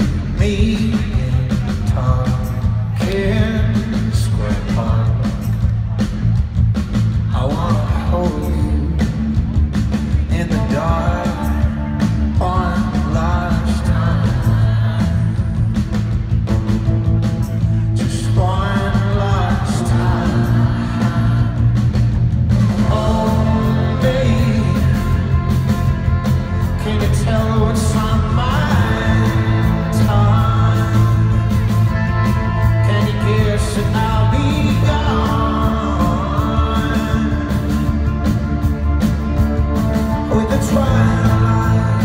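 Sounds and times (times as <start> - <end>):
man singing: 0.0 - 5.6, 7.2 - 16.2, 17.6 - 39.0, 39.8 - 42.0
heavy booming bass: 0.0 - 42.0
live rock band playing: 0.0 - 42.0.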